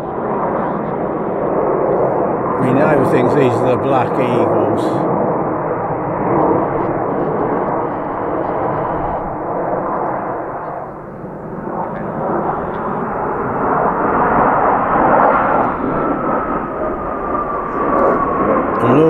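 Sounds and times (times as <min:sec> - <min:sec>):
high whine gliding downward: 0:00.0 - 0:19.0
jets flying past: 0:00.0 - 0:19.0.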